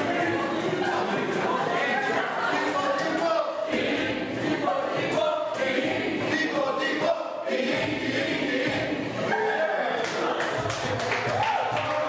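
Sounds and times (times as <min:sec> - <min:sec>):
group of people singing: 0:00.0 - 0:10.9.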